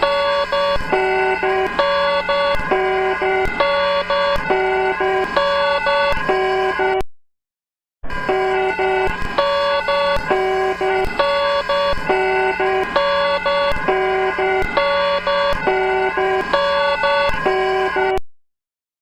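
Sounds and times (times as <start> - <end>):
emergency alert alarm tones: 0.0 - 7.0, 8.0 - 18.2.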